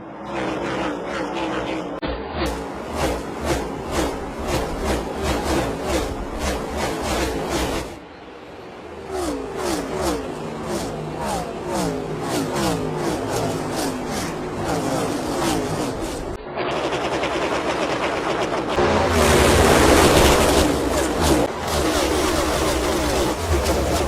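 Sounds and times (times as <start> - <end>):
race cars passing by: 0.0 - 24.0
several engines running together: 0.0 - 24.0.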